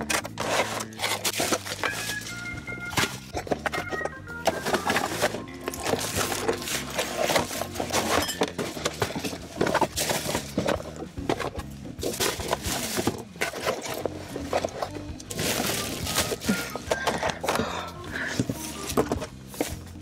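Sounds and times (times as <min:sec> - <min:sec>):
crunching and chewing food: 0:00.0 - 0:20.0.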